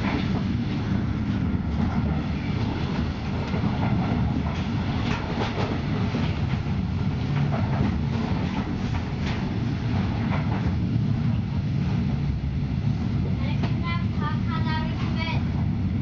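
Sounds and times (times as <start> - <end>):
train clacks and rattles: 0.0 - 16.0
train rumbling inside carriage: 0.0 - 16.0.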